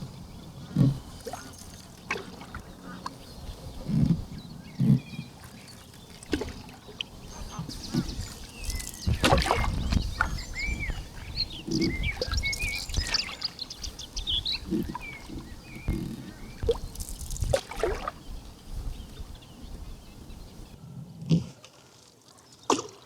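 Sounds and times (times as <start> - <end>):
canoe paddle splashing: 0.0 - 20.7
small birds chirping: 0.0 - 20.8.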